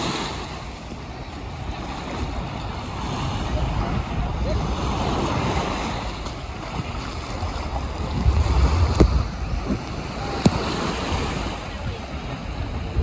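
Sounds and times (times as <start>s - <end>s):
small waves on sandy shore: 0.0s - 13.0s
wind on microphone: 0.0s - 13.0s.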